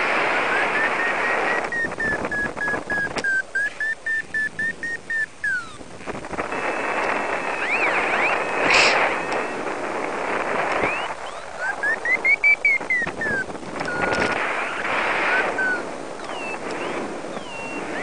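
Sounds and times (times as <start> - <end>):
wind rushing over microphone: 0.0 - 18.0
variometer beeping: 0.5 - 5.8, 6.5 - 9.6, 10.7 - 18.0.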